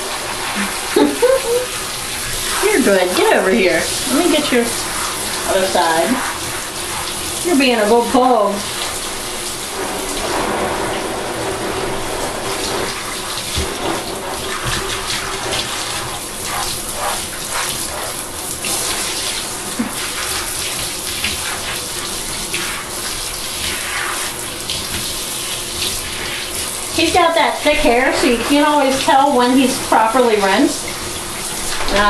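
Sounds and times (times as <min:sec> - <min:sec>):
shower water splashing into bathtub: 0:00.0 - 0:32.0.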